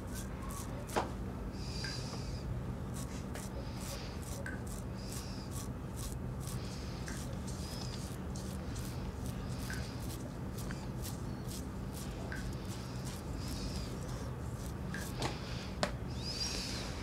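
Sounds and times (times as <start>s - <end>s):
soft rhythmic rubbing strokes: 0.0s - 17.0s
steady low hum: 0.0s - 17.0s.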